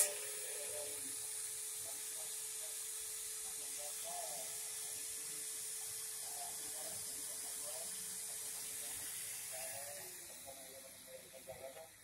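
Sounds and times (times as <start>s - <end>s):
electric drill running: 0.0s - 11.1s.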